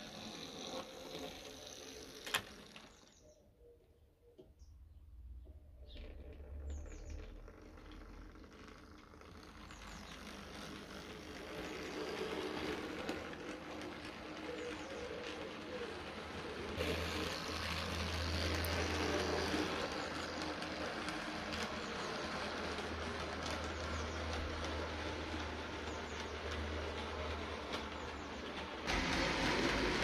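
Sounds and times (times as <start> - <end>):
model train motor whirring: 0.0 - 3.3, 6.4 - 30.0
wheels rattling on rails: 0.0 - 3.4, 5.8 - 30.0.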